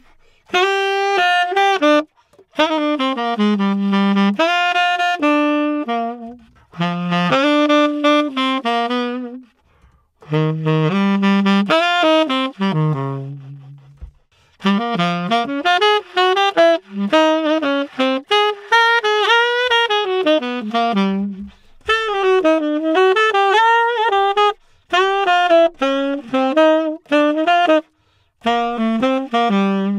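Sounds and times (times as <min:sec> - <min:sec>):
tenor saxophone jazz phrases: 0:00.0 - 0:29.9.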